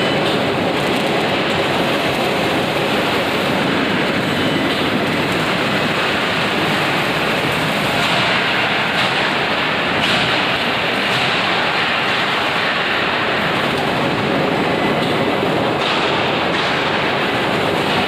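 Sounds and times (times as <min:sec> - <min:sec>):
loud machinery noise: 0:00.0 - 0:18.0.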